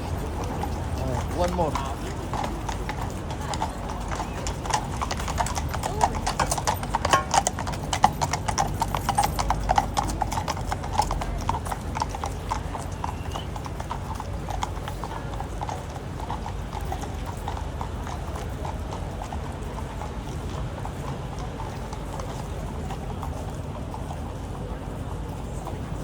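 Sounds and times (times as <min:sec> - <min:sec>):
horse hooves clip-clopping on road: 0:00.0 - 0:26.0.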